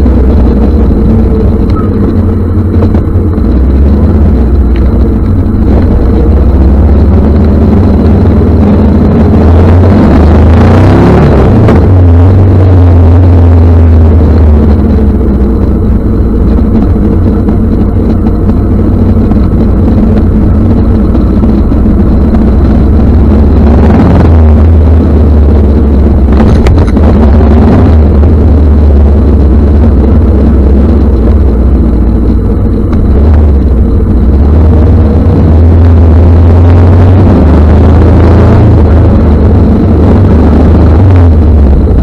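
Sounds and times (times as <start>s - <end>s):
motorcycle engine droning: 0.0s - 42.0s.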